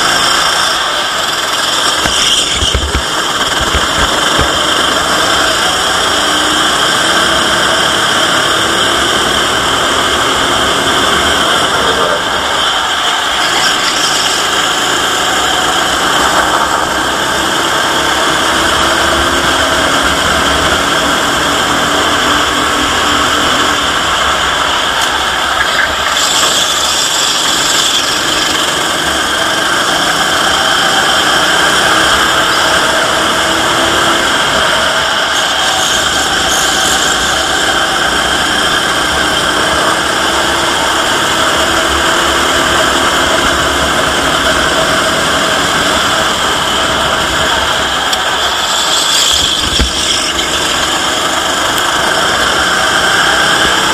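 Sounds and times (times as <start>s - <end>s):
loud steady rush of noise: 0.0s - 53.9s
racing kart engine: 0.0s - 53.9s.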